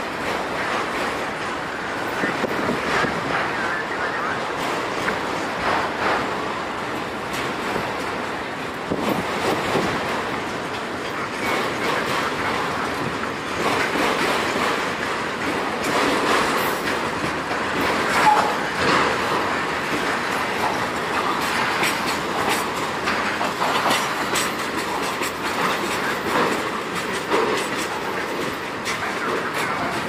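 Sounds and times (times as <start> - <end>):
train wheel clicks and clunks: 0.0 - 3.5, 4.5 - 30.0
freight train rumbling past: 0.0 - 30.0.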